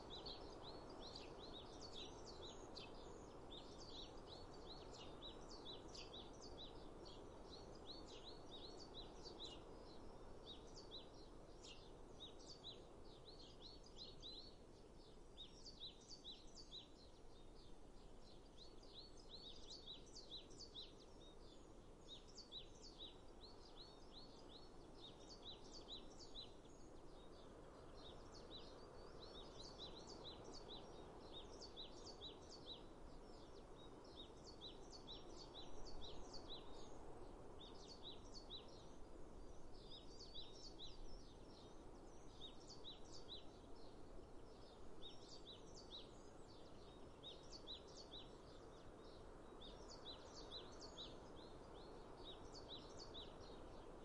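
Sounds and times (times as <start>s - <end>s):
small birds chirping: 0.0s - 54.0s
soft steady background hush: 0.0s - 54.0s.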